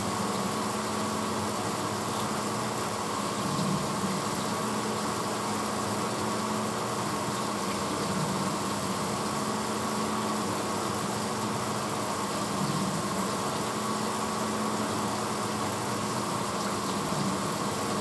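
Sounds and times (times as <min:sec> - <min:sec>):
dishwasher motor hum: 0:00.0 - 0:18.0.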